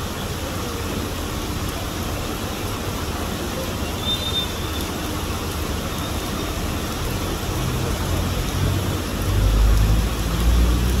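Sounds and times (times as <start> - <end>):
moving water: 0.0 - 11.0
rain hissing: 0.0 - 11.0.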